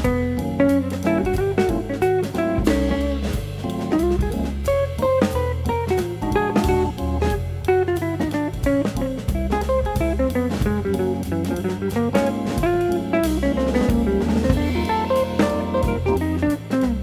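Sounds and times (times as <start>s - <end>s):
instrumental guitar and drum music: 0.0s - 17.0s.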